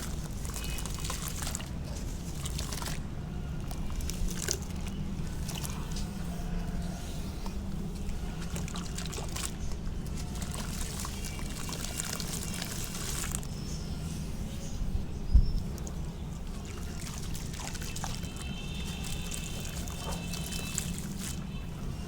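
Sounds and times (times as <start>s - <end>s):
wet cement crumbling: 0.0s - 13.7s, 15.6s - 21.6s
trickling water: 0.0s - 22.0s.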